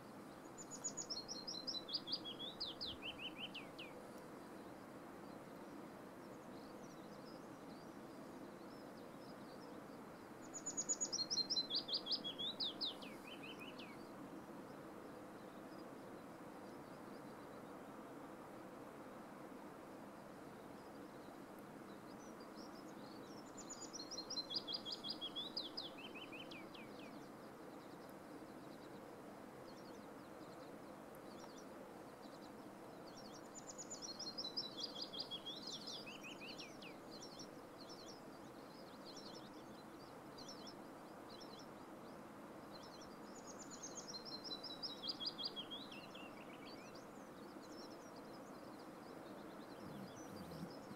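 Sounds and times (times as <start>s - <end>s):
small songbird singing: 0.2s - 4.6s, 6.2s - 14.2s, 20.6s - 50.9s.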